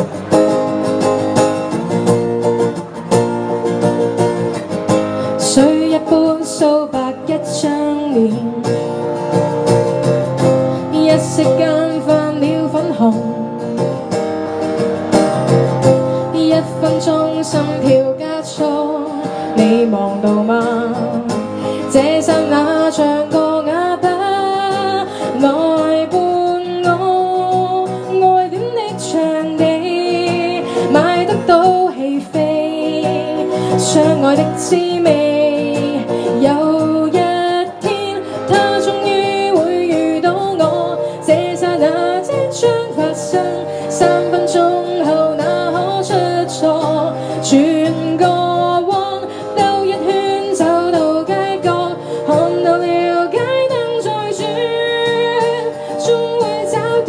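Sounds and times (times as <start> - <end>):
strummed acoustic guitar: 0.0 - 57.0
woman singing into microphone: 3.8 - 14.8, 15.4 - 57.0.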